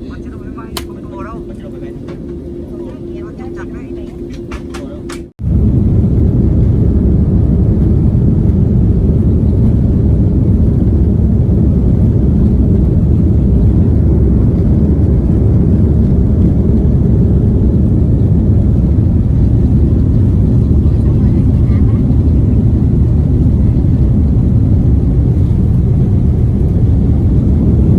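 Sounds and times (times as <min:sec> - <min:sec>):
jet engines and airflow rumble: 0:00.0 - 0:27.9.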